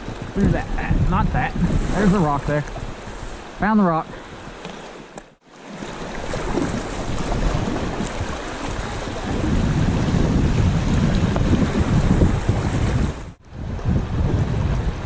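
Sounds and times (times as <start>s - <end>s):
wind buffeting microphone: 0.0s - 4.7s, 5.9s - 15.0s
whitewater splashing around kayak: 0.0s - 15.0s.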